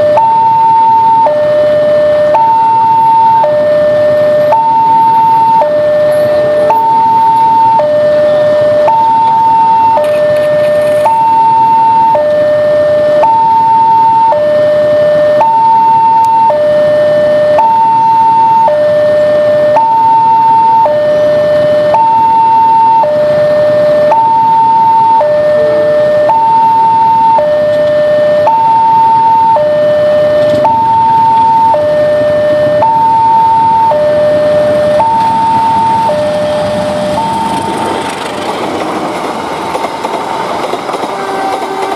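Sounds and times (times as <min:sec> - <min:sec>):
level crossing alarm alternating tones: 0:00.0 - 0:37.9.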